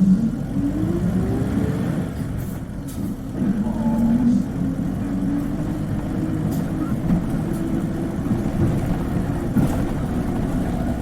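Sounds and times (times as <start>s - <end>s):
bus engine accelerating: 0.0s - 11.0s.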